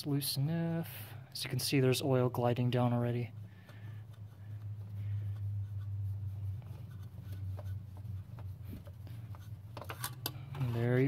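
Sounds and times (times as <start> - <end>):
faint rubbing and scraping: 0.0 - 11.0
steady low hum: 0.0 - 11.0.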